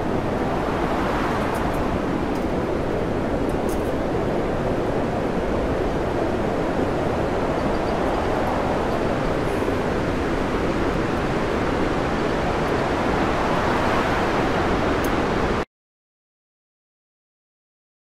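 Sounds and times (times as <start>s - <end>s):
heavy waves breaking: 0.0s - 15.6s
storm wind rushing: 0.0s - 15.6s.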